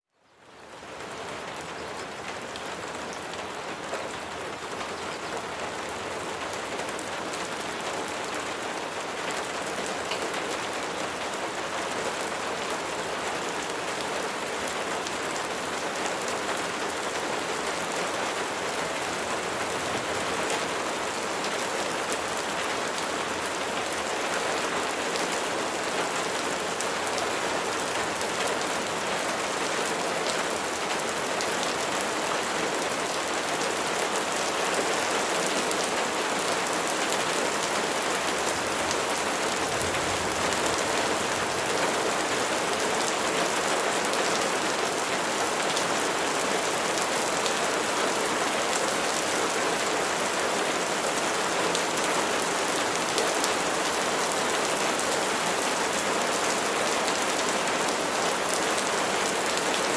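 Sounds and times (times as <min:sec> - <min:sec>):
steady rain falling: 0:00.1 - 0:59.9.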